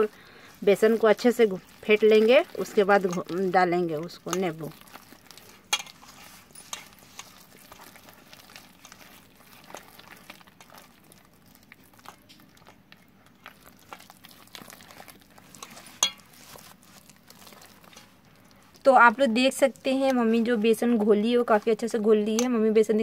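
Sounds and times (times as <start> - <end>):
hand stirring batter: 0.0 - 23.0.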